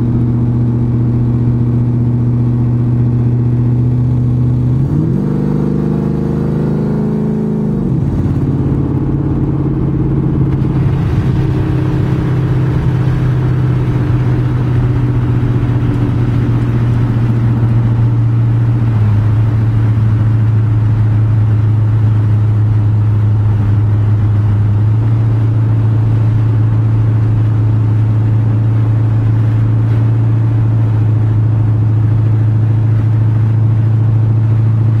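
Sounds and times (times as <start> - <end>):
car engine accelerating and cruising: 0.0 - 35.0.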